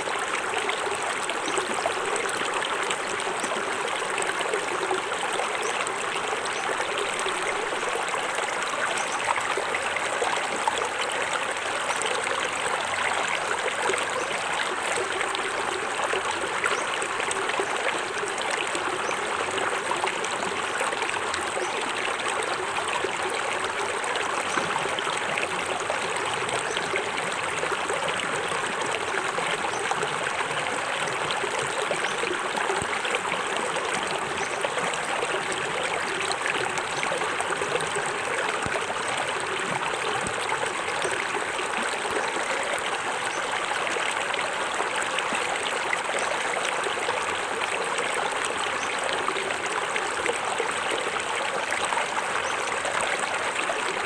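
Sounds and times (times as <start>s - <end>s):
water running over rocks: 0.0s - 54.0s.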